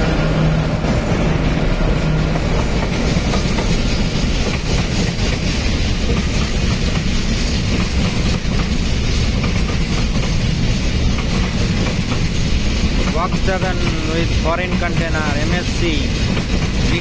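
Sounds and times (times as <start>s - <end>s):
clickety-clack over rail joints: 0.0s - 17.0s
train wheels rumbling on rails: 0.0s - 17.0s.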